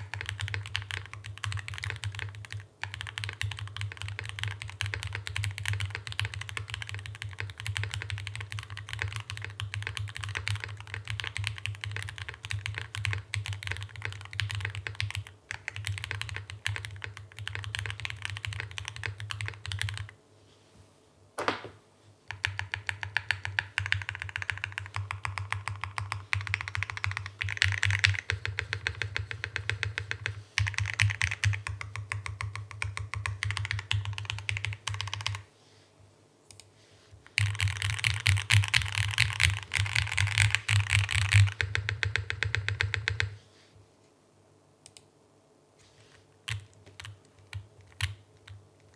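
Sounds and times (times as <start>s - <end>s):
fast typing on mechanical keyboard: 0.0s - 20.2s, 22.3s - 35.5s, 37.3s - 43.4s, 46.4s - 48.9s.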